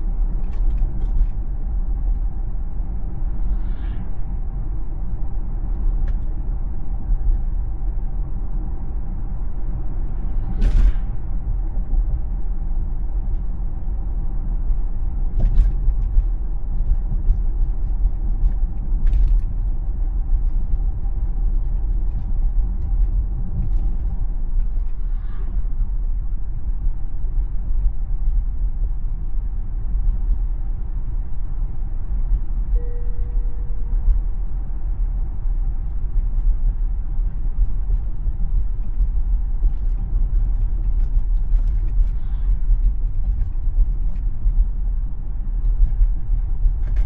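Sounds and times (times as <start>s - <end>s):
road and tyre rumble: 0.0s - 47.0s.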